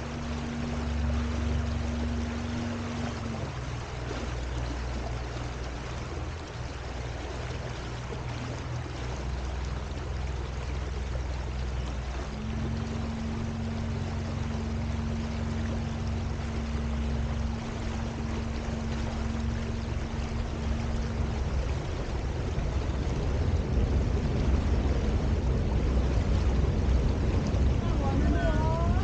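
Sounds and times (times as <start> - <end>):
low electric hum: 0.0 - 29.0
rushing water: 0.0 - 29.0.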